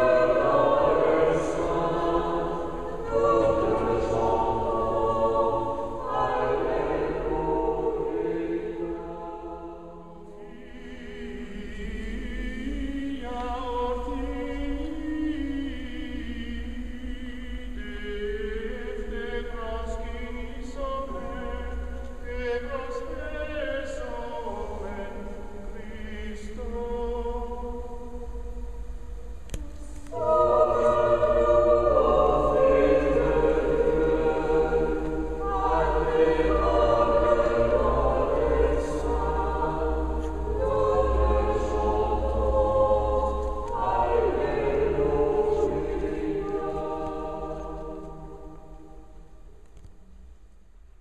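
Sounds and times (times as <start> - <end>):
choir chanting a cappella: 0.0 - 49.9.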